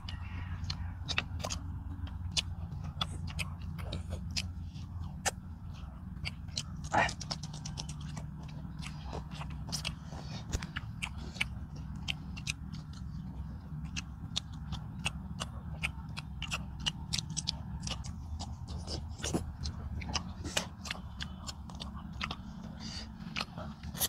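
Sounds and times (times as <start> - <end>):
steady low hum: 0.0 - 24.0
wet chewing and smacking: 0.0 - 24.0.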